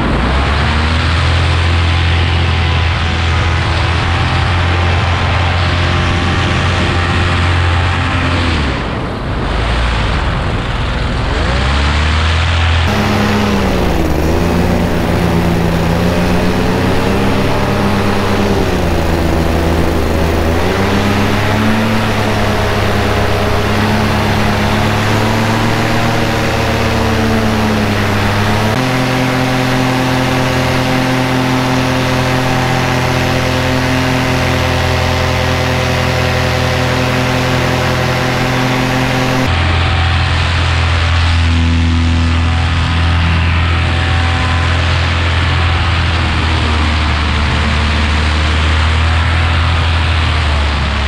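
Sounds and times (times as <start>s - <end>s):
paramotor engine droning: 0.0s - 51.0s.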